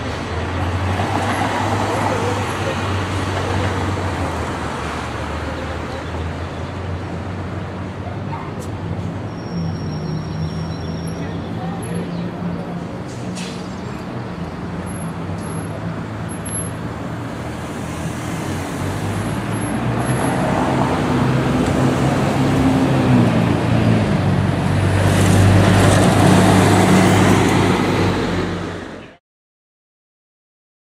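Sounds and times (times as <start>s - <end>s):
street traffic: 0.0s - 29.2s.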